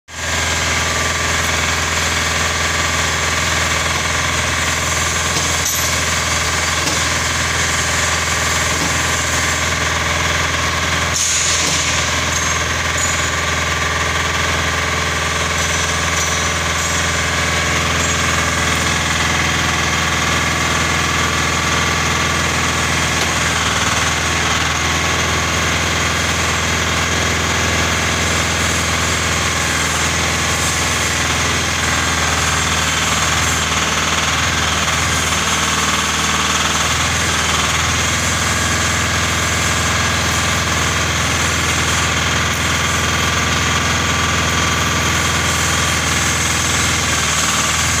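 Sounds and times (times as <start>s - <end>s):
brick-making machine droning: 0.1s - 48.0s.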